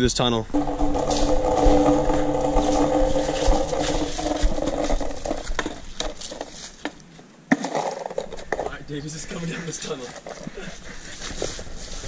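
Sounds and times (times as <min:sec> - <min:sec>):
skateboard wheels rolling on concrete: 0:00.5 - 0:12.0.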